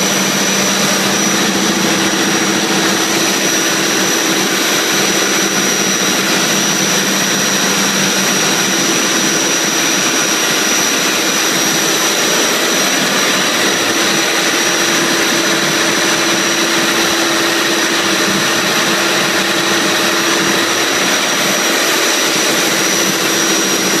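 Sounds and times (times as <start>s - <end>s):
diesel engine running: 0.0s - 24.0s
high-pitched whine: 0.0s - 24.0s.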